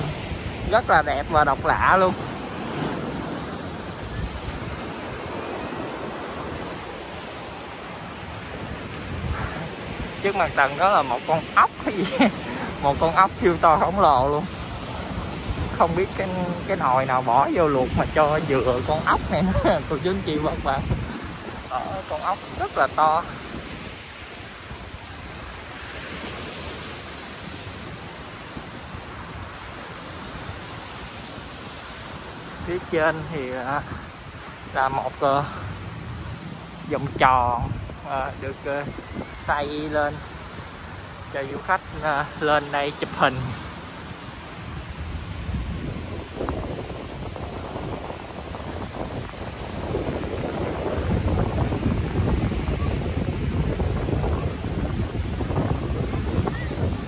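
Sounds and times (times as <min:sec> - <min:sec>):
sea surf washing on beach: 0:00.0 - 0:57.0
wind buffeting microphone: 0:00.0 - 0:57.0.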